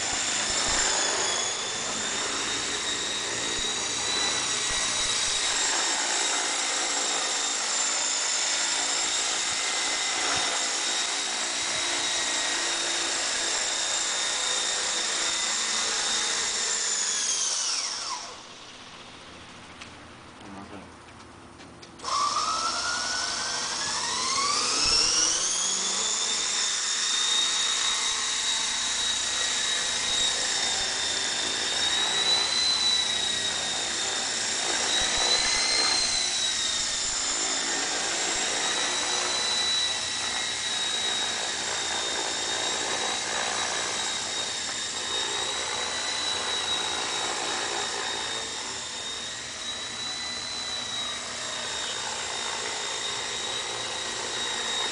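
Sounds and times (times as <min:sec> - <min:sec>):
model helicopter motor whine: 0:00.0 - 0:19.9, 0:22.0 - 0:54.9.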